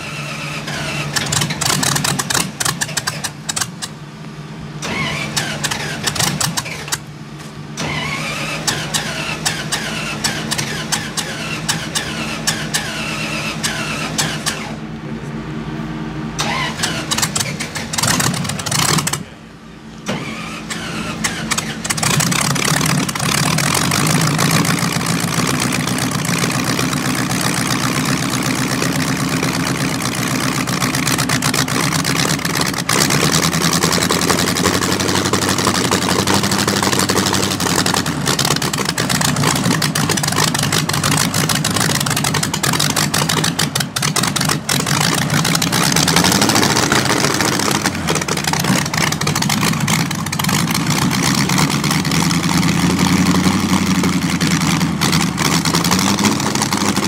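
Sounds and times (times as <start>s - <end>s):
engine cranking and starting: 0.0s - 4.0s, 4.8s - 14.9s, 16.4s - 19.4s, 20.0s - 57.0s.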